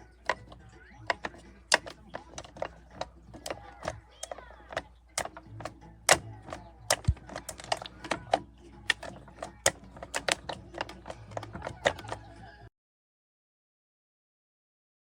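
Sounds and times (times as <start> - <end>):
sharp clicks and taps: 0.0 - 12.4.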